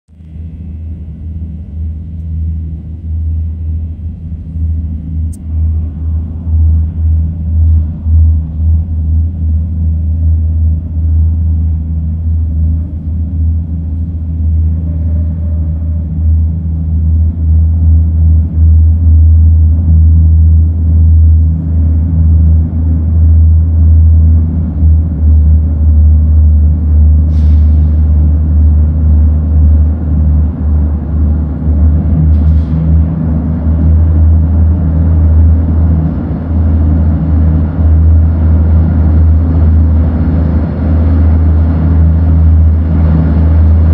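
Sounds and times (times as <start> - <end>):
diesel locomotive rumbling in tunnel: 0.1 - 43.9.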